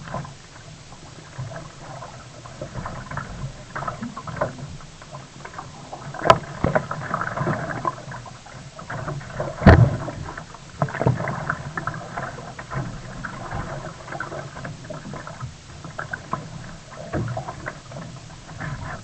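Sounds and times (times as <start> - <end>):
paddle splashing in water: 0.0 - 19.0.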